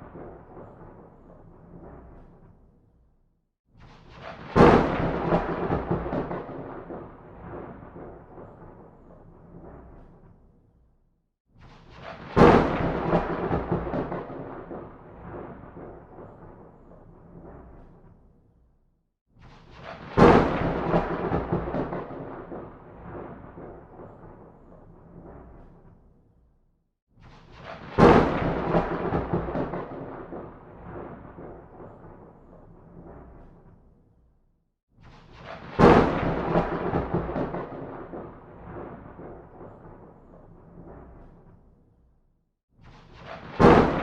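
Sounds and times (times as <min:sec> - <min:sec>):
thunder rumbling and cracking: 0:00.0 - 0:02.7, 0:04.0 - 0:10.5, 0:11.9 - 0:18.3, 0:19.6 - 0:25.9, 0:27.5 - 0:33.7, 0:35.2 - 0:41.6, 0:43.1 - 0:44.0.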